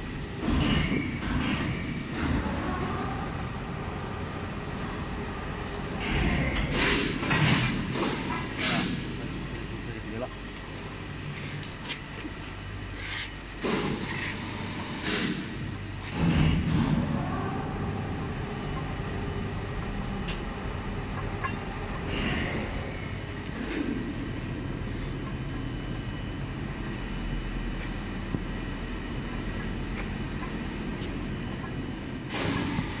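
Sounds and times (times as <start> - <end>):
machine high whine: 0.0 - 33.0
machine low mechanical rumble: 0.0 - 33.0.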